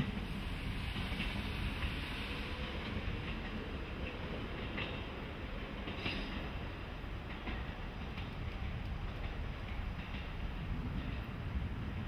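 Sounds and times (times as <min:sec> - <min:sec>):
electric train rumbling: 0:00.0 - 0:12.0
wheels clicking over rail joints: 0:00.0 - 0:12.0.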